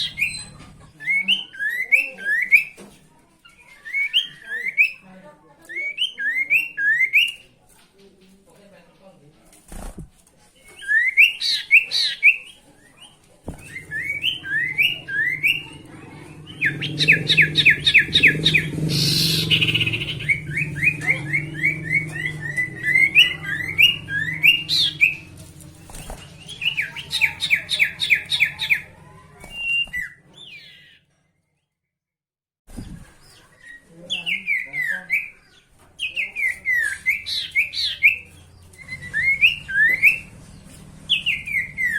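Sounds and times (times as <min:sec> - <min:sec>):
songbird chirping and trilling: 0:00.0 - 0:07.8, 0:10.6 - 0:31.8, 0:32.7 - 0:41.9.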